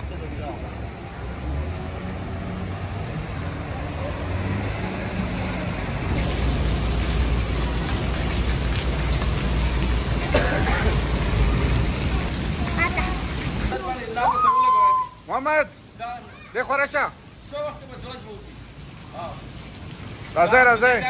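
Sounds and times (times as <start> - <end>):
heavy rain on paving: 0.0 - 21.0
traffic hum: 0.0 - 21.0.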